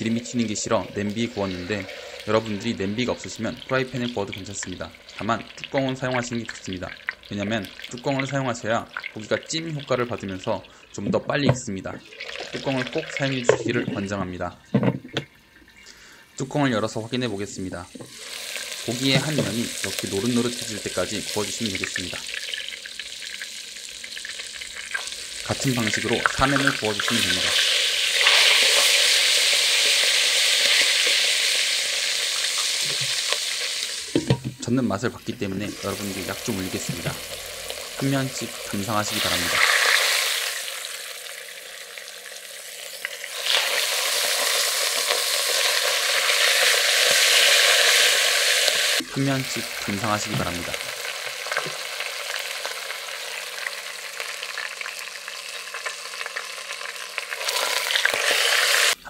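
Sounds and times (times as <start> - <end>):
pork searing in hot oil: 0.0 - 59.0.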